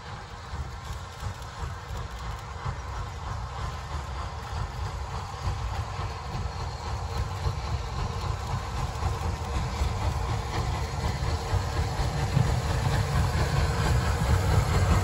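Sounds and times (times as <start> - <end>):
hiss of steam: 0.0 - 15.0
steam locomotive rumbling: 0.0 - 15.0.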